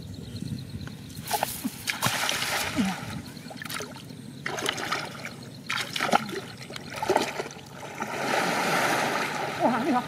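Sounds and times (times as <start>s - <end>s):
person wading through water: 1.6s - 9.9s.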